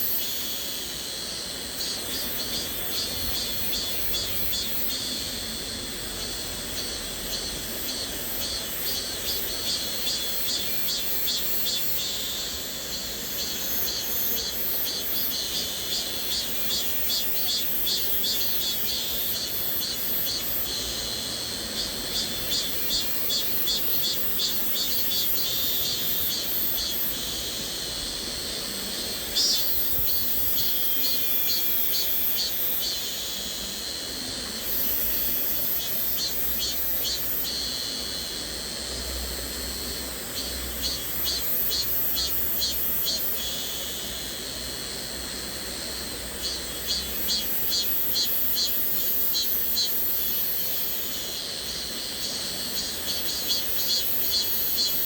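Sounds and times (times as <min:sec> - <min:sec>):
cicada chorus pulsing: 0:00.0 - 0:55.0.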